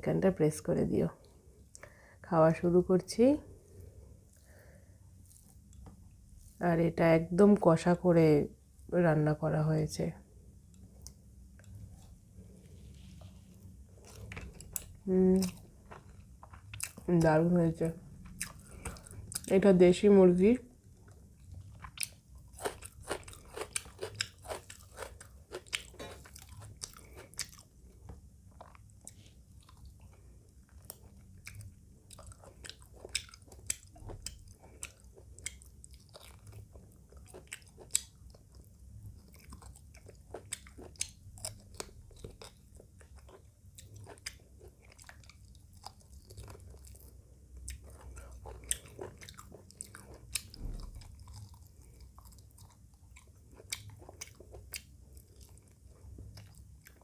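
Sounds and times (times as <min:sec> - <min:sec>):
person chewing food: 0:03.5 - 0:06.6, 0:10.6 - 0:17.3, 0:18.0 - 0:19.5, 0:20.7 - 0:57.0.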